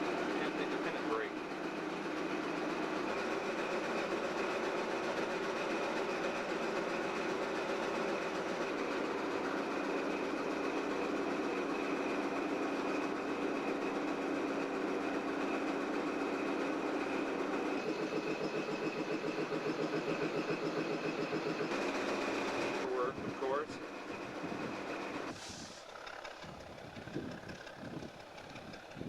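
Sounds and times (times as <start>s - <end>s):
diesel locomotive running: 0.0s - 29.0s.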